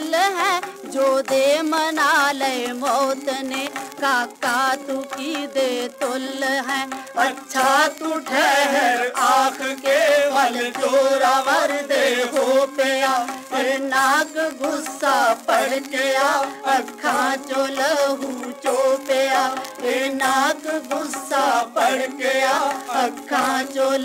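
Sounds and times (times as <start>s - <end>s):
person singing with vibrato: 0.0s - 24.0s.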